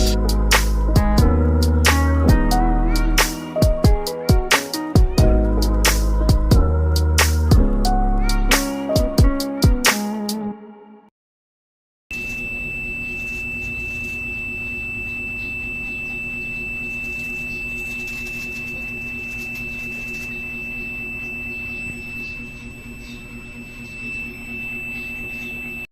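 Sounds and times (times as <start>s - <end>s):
alarm buzzer steady tone: 0.0s - 7.5s, 12.1s - 25.9s.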